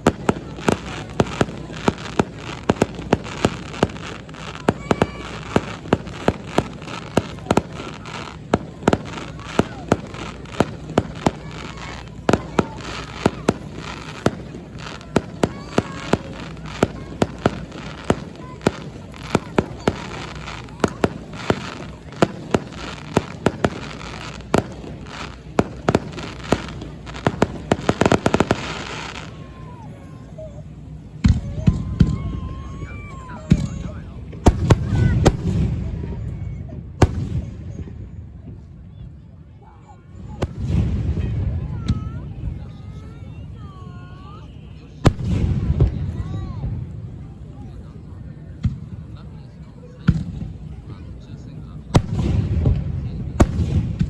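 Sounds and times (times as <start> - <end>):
fireworks bangs: 0.0 - 39.2, 39.8 - 47.6, 48.6 - 49.4, 50.0 - 54.0.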